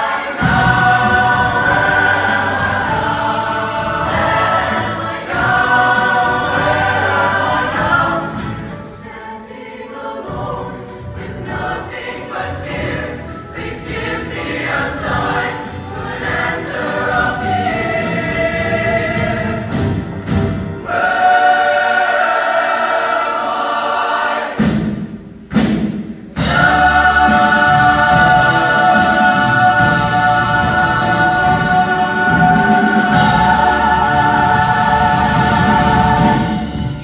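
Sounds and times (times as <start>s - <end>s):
live band accompaniment: 0.0s - 9.3s, 10.2s - 21.8s, 24.5s - 37.0s
choir singing in harmony: 0.0s - 37.0s.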